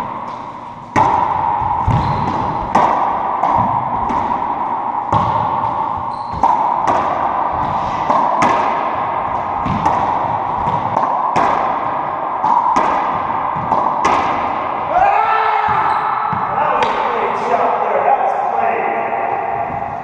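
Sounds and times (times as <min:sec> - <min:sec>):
racquetball smacks with echo: 0:00.0 - 0:15.0, 0:15.6 - 0:17.2
steady hum: 0:00.0 - 0:20.0.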